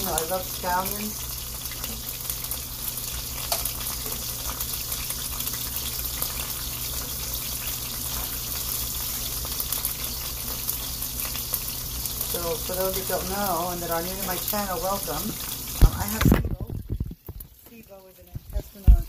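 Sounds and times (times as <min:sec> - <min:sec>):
beef sizzling in oil: 0:00.0 - 0:19.0.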